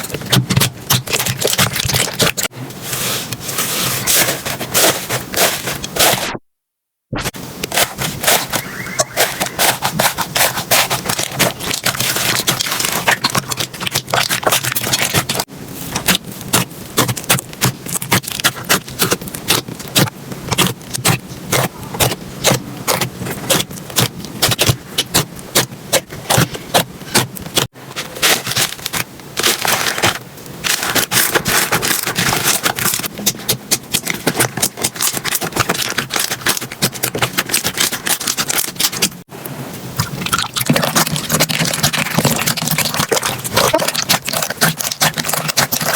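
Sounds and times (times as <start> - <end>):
slime crackling and popping: 0.0 - 2.5, 7.7 - 39.2, 40.0 - 45.9.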